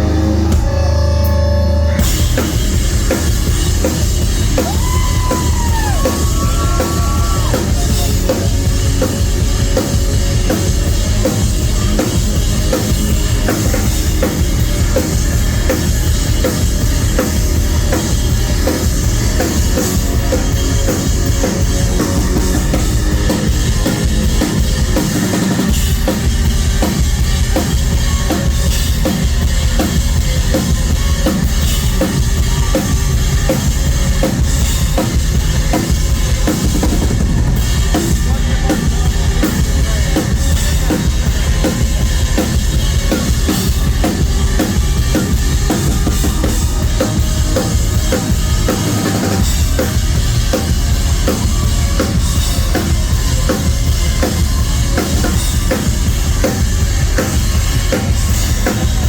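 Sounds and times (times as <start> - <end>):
driving drum kit: 0.0 - 59.0
live rock band playing: 0.0 - 59.0.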